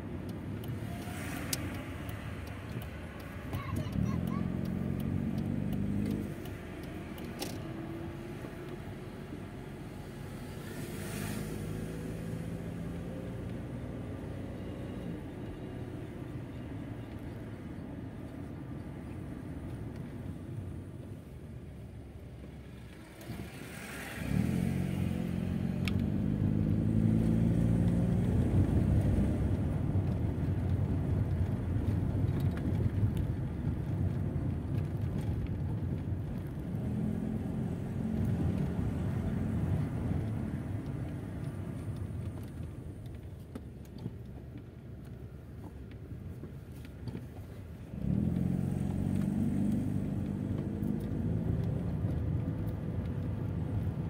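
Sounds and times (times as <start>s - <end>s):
car engine under load: 0.0s - 54.0s.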